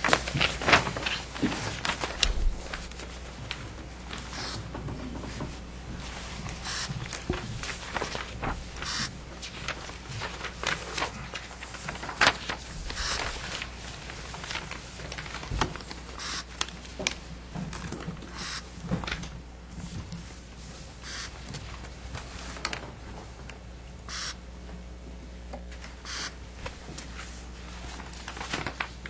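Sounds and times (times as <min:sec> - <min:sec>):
papers rustling and clicks: 0:00.0 - 0:20.3, 0:21.4 - 0:23.6, 0:26.6 - 0:29.0
low electrical hum: 0:00.0 - 0:29.0.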